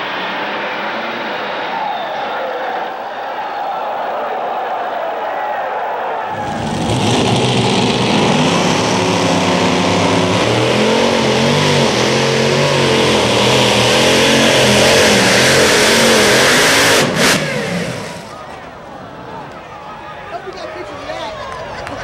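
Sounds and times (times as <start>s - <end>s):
tractor engines running flat out: 0.0s - 3.0s, 6.3s - 22.0s.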